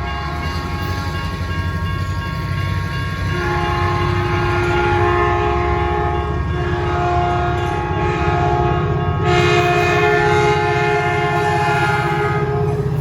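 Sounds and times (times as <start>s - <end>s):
passing train rumble: 0.0s - 13.0s
train horn chord: 0.0s - 13.0s.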